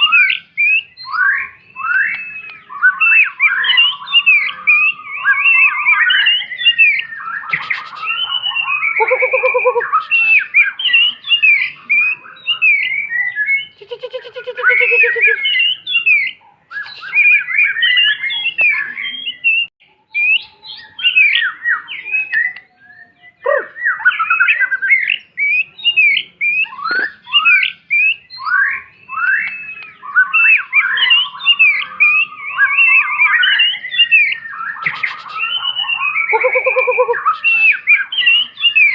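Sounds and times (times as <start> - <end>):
songbird whistling and chattering: 0.0 - 38.9.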